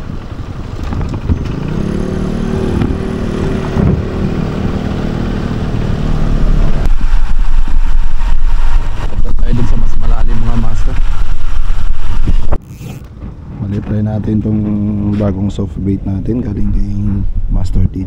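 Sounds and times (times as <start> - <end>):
heavy low rumble: 0.0 - 12.6, 13.2 - 18.0
engine running: 0.0 - 17.2.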